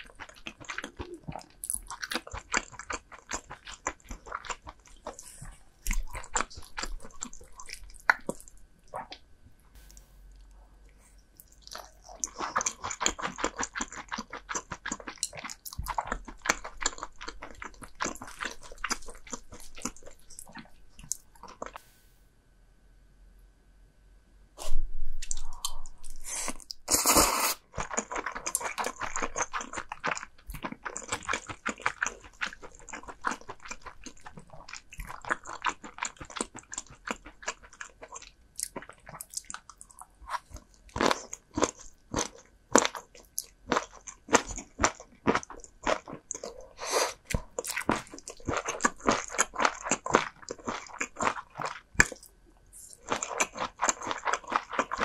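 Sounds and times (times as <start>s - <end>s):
person chewing and crunching food: 0.0s - 21.9s, 24.6s - 55.0s.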